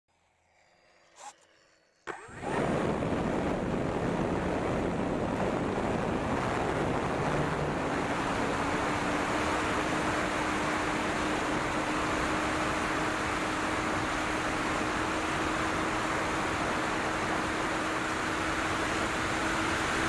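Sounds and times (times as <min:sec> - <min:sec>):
faint steady whine: 0:00.1 - 0:20.0
model plane motor and propeller: 0:00.1 - 0:20.0
wind over microphone: 0:02.2 - 0:20.0.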